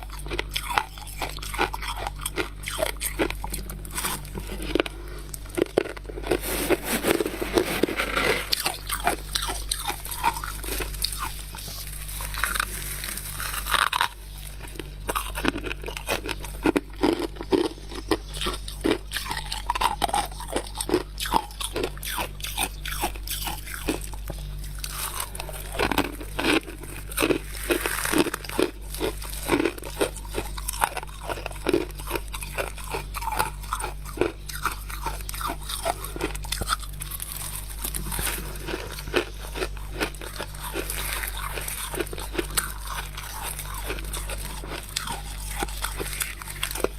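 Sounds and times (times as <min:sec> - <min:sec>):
steady low hum: 0:00.0 - 0:46.9
frost being crunched by teeth: 0:08.4 - 0:46.9.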